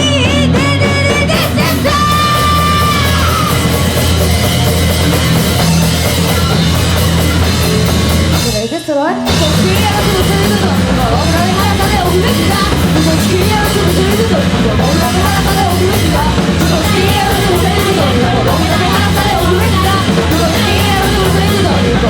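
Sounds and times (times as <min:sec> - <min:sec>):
person singing: 0:00.0 - 0:04.3, 0:08.3 - 0:22.0
punk rock band playing: 0:00.0 - 0:22.0.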